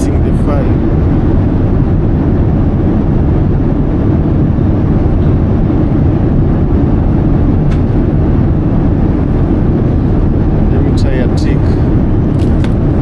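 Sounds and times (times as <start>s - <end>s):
airliner cabin roar: 0.0s - 13.0s.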